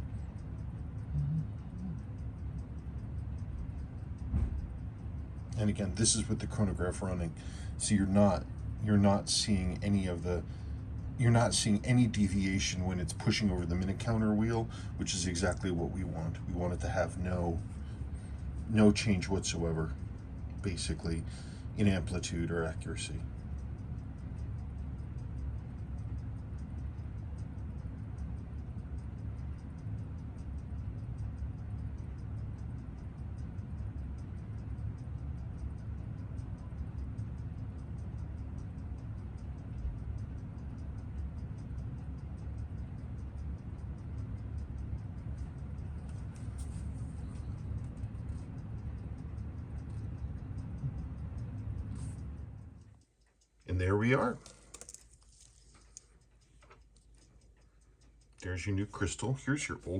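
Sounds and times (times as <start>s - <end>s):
steady low hum: 0.0s - 59.9s
watch movement ticking: 0.0s - 59.9s.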